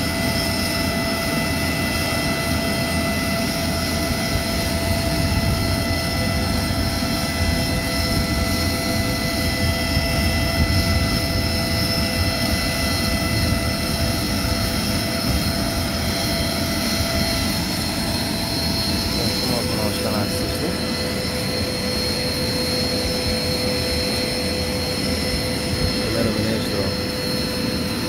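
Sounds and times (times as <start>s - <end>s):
aircraft engines whining: 0.0s - 28.0s.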